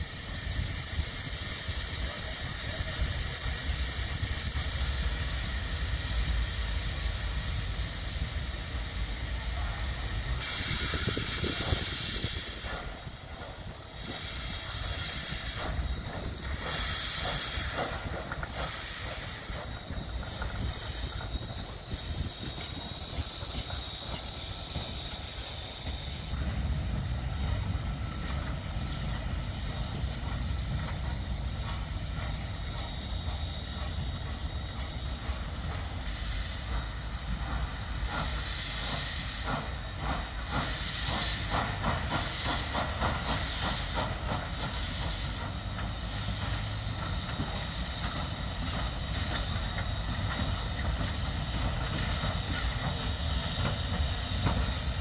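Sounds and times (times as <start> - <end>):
steam locomotive running past: 0.0 - 55.0.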